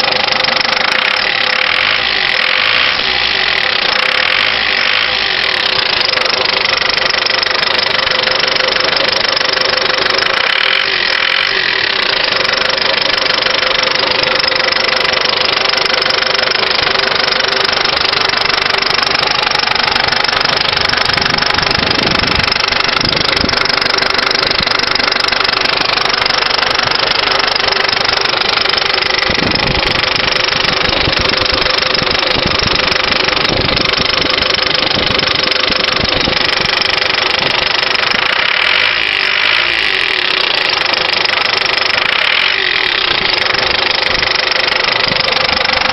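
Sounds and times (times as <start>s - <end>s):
diesel engine running with knock: 0.0s - 45.9s.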